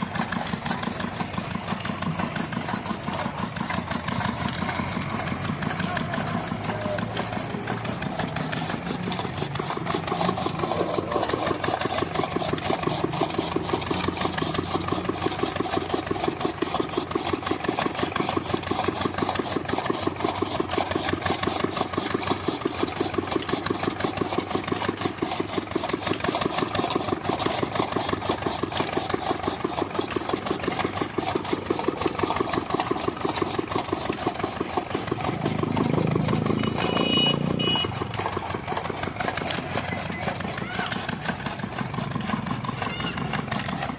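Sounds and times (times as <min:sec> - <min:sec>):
chaff cutter running: 0:00.0 - 0:43.9.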